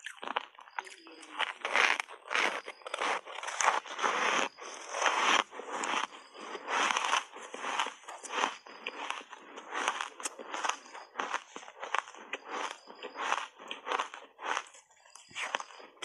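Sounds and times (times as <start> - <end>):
ice crunching between teeth: 0.0 - 16.0.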